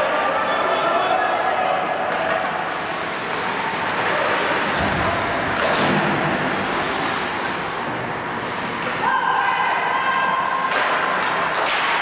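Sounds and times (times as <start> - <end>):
ice rink rushing noise: 0.0 - 12.0.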